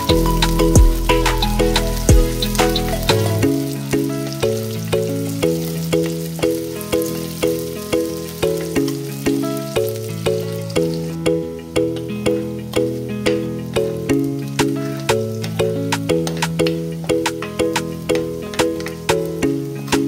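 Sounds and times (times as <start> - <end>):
aromatics sizzling in oil: 0.0 - 20.0
background music evenly paced notes: 0.0 - 20.0.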